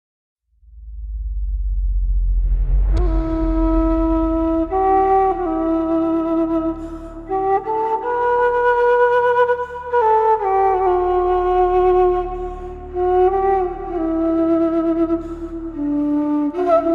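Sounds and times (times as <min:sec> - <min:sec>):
solo flute melody: 0:03.0 - 0:16.9.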